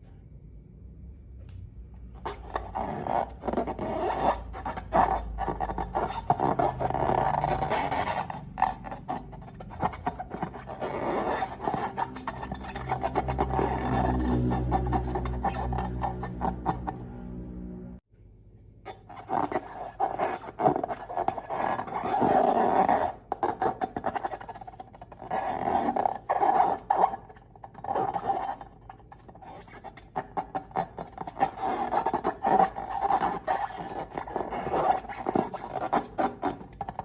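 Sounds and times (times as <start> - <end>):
rubber balloons squeaking: 2.2 - 17.1, 18.9 - 37.0.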